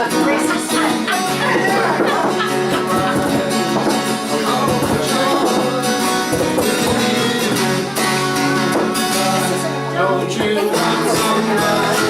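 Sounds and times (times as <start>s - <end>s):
electric guitar: 0.0s - 12.0s
live rock band playing: 0.0s - 12.0s.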